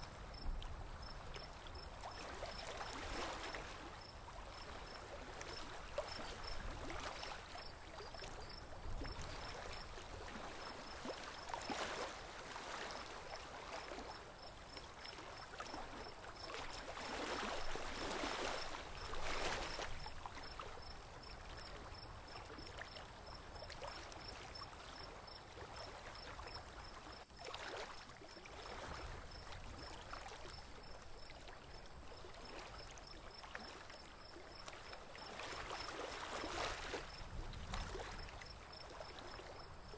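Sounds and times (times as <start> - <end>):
water lapping around a boat: 0.0 - 39.9.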